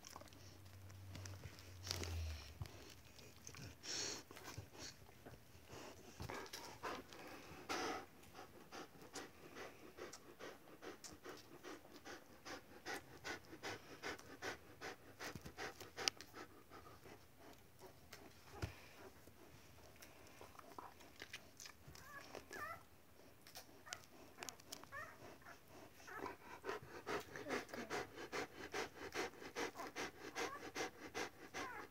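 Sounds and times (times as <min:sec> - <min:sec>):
dog panting: 0:00.1 - 0:31.9.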